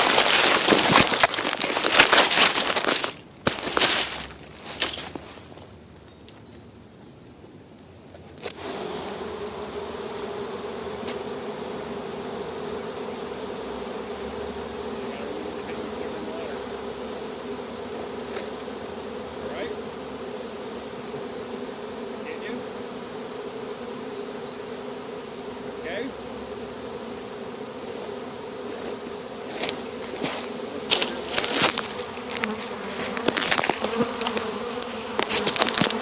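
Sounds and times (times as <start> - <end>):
bee swarm buzzing: 0.0 - 5.4, 8.4 - 36.0.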